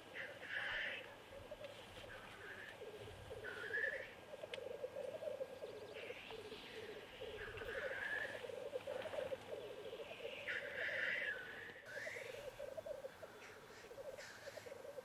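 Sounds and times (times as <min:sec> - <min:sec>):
black grouse bubbling call: 0:00.0 - 0:15.0.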